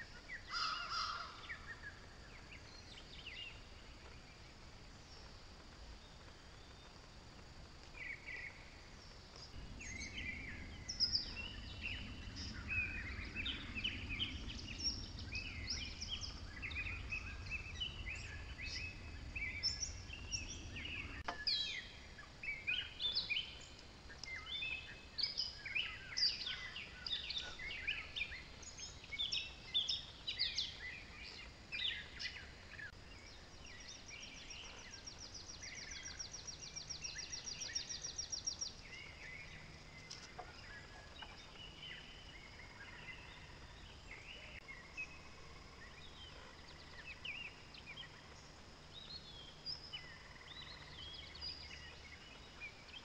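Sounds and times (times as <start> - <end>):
birds chirping and singing: 0.0 - 5.3, 5.9 - 53.0
low rumble: 1.0 - 53.0.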